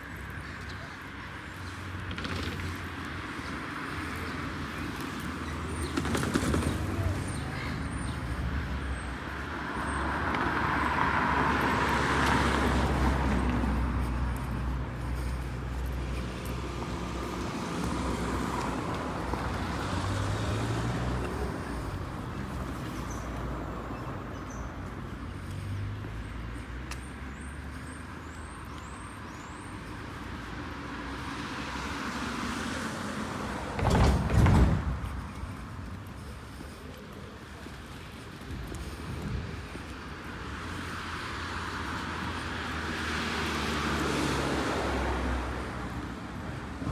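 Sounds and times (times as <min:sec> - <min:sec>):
cars and buses passing: 0:00.0 - 0:46.9.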